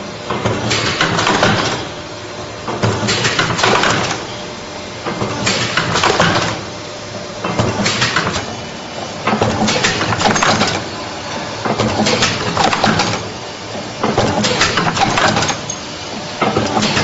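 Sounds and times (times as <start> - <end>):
machine running hum: 0.0 - 17.0.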